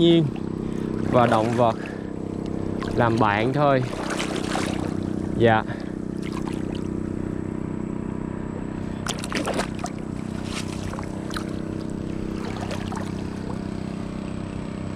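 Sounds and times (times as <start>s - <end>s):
boat engine running: 0.0s - 14.9s.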